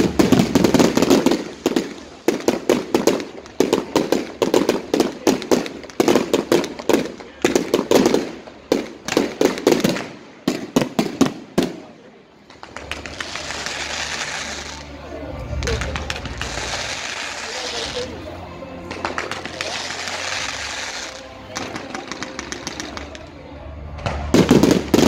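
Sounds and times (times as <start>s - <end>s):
firework bangs and crackles: 0.0s - 25.0s.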